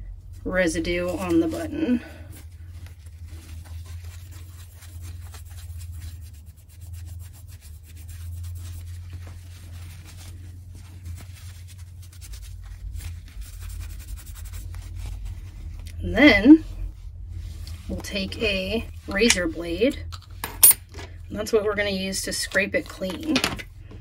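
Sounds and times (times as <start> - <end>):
low steady hum: 0.0 - 24.0
paper towel rubbing on metal: 0.2 - 20.0, 21.1 - 23.8.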